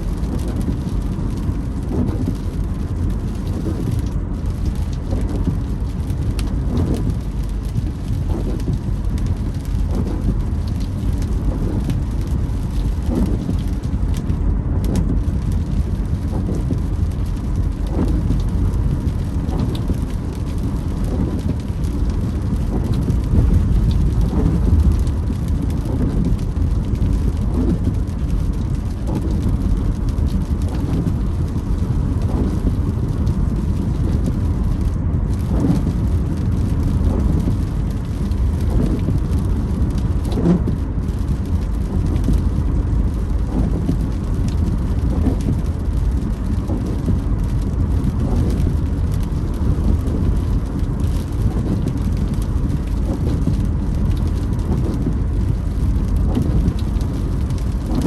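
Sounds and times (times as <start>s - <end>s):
rain on car: 0.0s - 58.0s
road and engine rumble: 0.0s - 58.0s
windshield wipers creaking: 0.1s - 58.0s.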